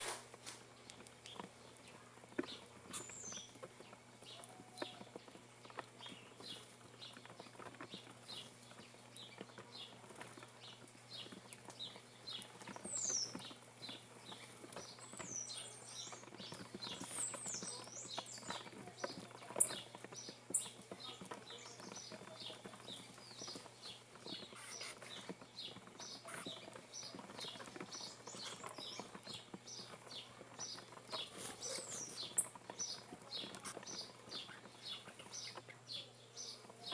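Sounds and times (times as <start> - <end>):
small birds chirping: 0.0 - 36.9
light tapping and pattering: 0.3 - 36.9.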